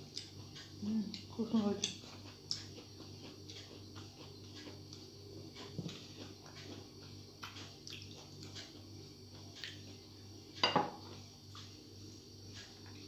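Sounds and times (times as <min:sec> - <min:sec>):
eating rice by hand: 0:00.0 - 0:13.0.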